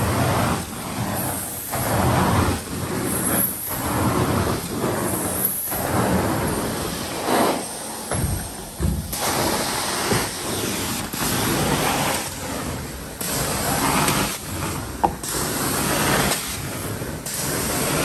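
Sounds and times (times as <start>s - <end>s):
carpet cleaning machine running: 0.0s - 18.0s.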